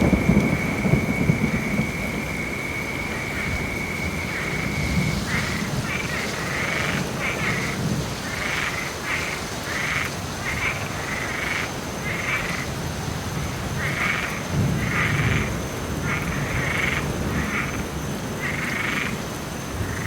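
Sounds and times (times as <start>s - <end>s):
frogs croaking: 0.0s - 20.0s
rain falling: 0.0s - 20.0s.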